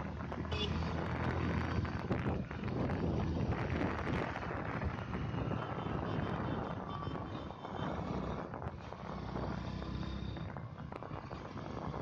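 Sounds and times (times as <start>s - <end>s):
motorcycle engine: 0.0s - 12.0s
wind and road noise: 0.0s - 12.0s.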